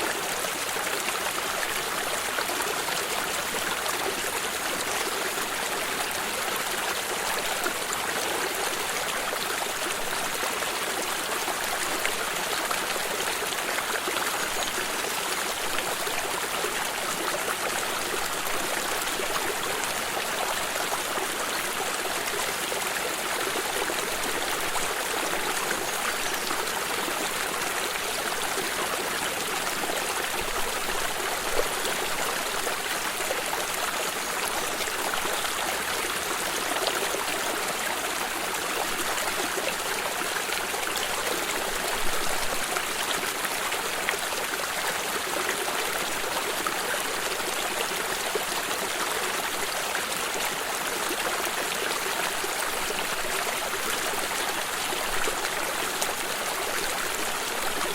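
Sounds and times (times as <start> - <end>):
stream of water trickling: 0.0 - 57.9.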